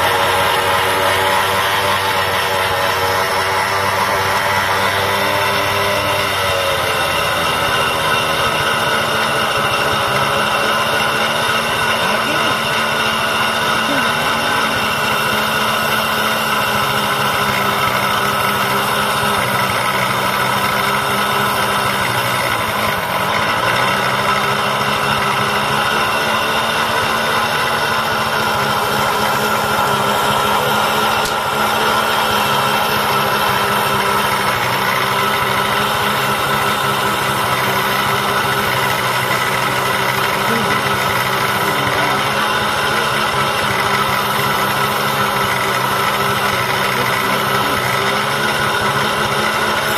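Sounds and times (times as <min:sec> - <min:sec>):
scissors on grinding wheel: 0:00.0 - 0:49.9
small motorcycle engine running: 0:00.0 - 0:49.9.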